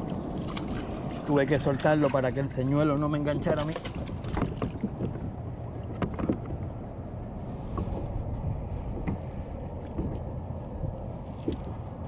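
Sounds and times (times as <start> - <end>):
water lapping against hull: 0.0 - 12.0
wind buffeting microphone: 0.0 - 12.0.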